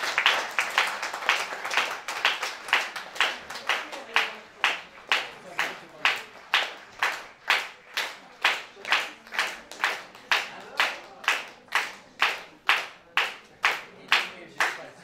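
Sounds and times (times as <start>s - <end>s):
audience clapping in rhythm: 0.0s - 15.0s.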